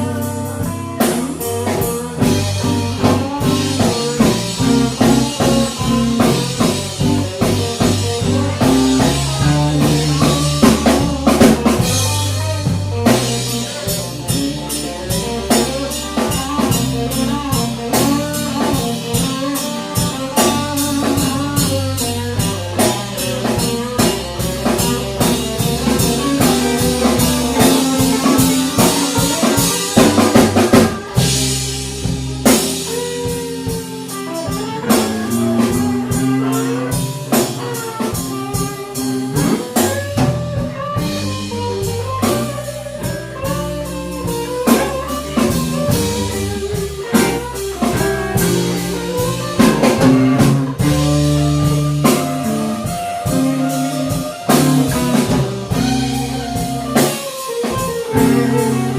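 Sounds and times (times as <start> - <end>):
bass guitar: 0.0 - 58.9
drum kit: 0.0 - 58.9
electric guitar with bent notes: 0.0 - 58.9.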